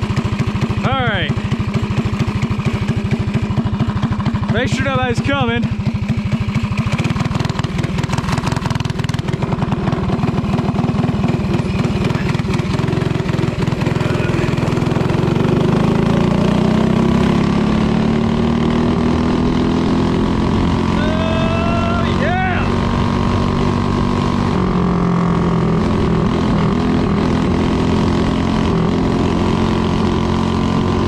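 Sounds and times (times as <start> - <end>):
go-kart engine running hard: 0.0 - 31.0.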